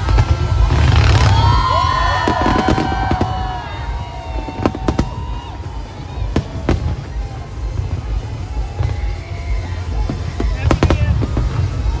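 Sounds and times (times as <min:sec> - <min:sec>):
firework bangs: 0:00.0 - 0:12.0
whistling firework shells: 0:02.2 - 0:12.0.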